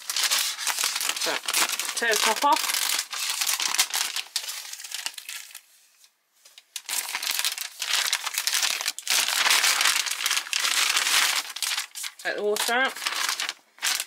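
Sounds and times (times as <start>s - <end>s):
plastic bag crinkling: 0.0s - 5.8s, 6.6s - 14.0s.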